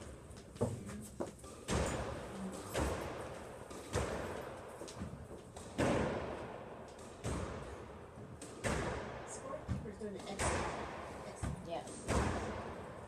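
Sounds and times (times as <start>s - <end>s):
squash ball smacks echoing: 0.0s - 13.0s.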